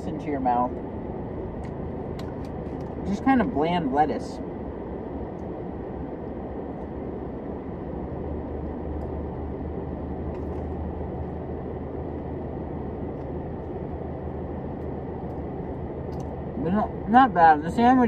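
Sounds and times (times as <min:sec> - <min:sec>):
car machinery humming: 0:00.0 - 0:18.0.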